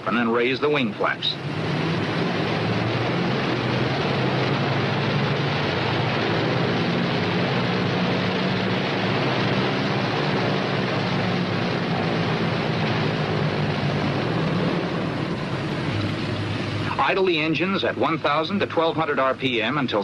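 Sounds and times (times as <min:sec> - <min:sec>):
constant hiss: 0:00.0 - 0:20.0
propeller aircraft engines droning: 0:00.0 - 0:20.0.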